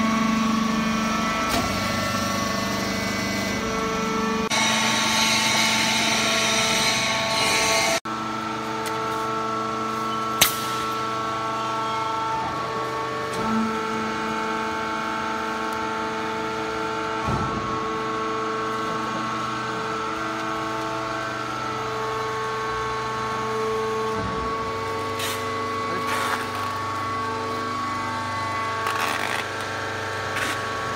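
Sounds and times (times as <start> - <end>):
baling press machine hum: 0.0 - 30.9.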